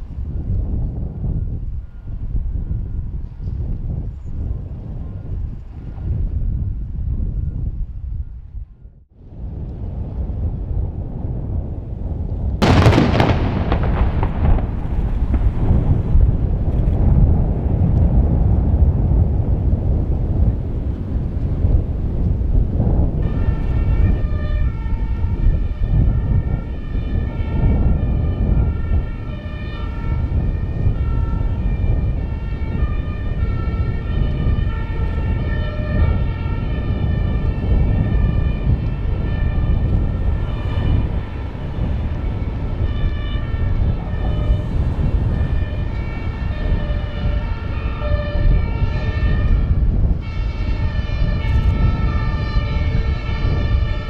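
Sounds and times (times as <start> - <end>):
two-tone emergency sirens: 0.0 - 10.6, 12.6 - 54.0
heavy low rumble: 0.0 - 54.0.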